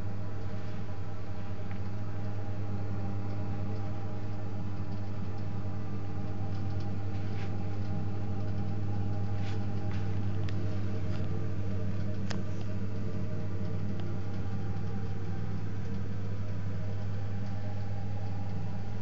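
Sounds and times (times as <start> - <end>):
gas boiler humming: 0.0 - 19.0.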